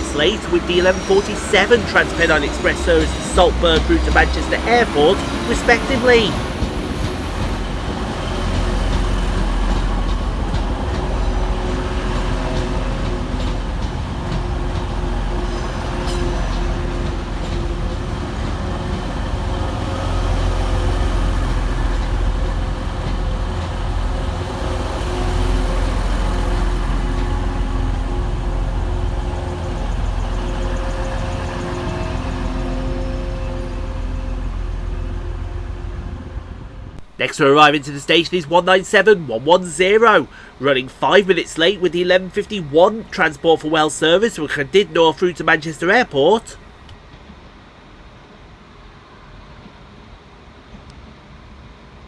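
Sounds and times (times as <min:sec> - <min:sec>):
diesel train engine humming: 0:00.0 - 0:47.0.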